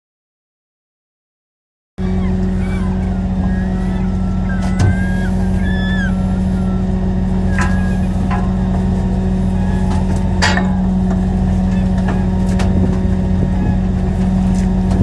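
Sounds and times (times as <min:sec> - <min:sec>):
boat diesel engine running: 0:02.0 - 0:15.0.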